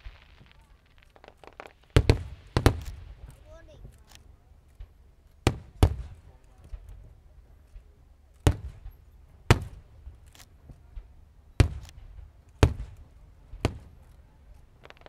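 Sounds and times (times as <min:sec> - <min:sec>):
fireworks bangs: 0:00.0 - 0:07.2, 0:08.4 - 0:15.0.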